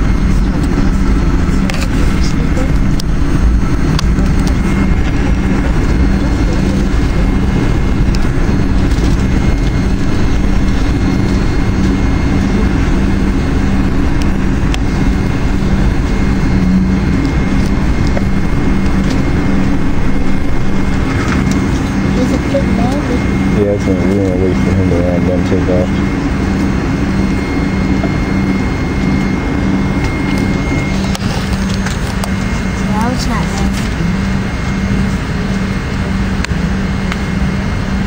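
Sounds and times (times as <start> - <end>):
airplane cabin engine rumble: 0.0 - 38.0
faint jet engine whine: 0.0 - 38.0.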